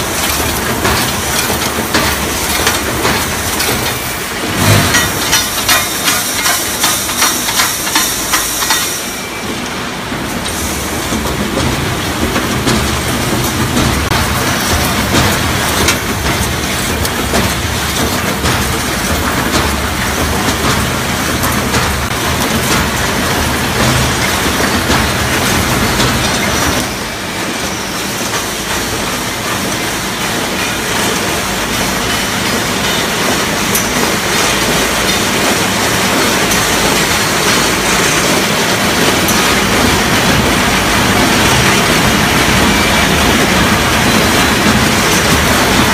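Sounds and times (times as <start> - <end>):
welding machine clattering: 0.0 - 9.1, 10.4 - 45.9.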